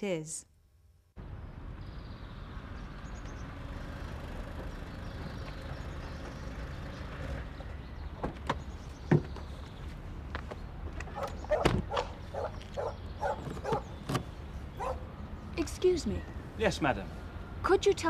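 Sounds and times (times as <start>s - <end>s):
car engine low rumble: 1.2s - 17.7s.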